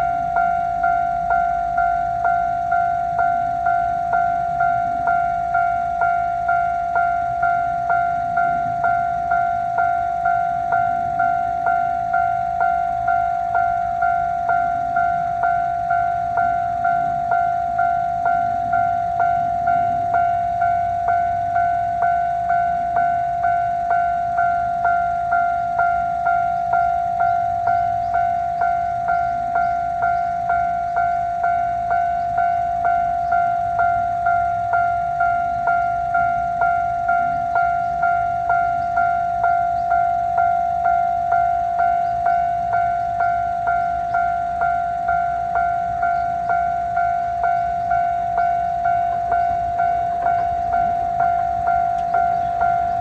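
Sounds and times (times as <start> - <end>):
level crossing alarm ringing: 0.0 - 53.0.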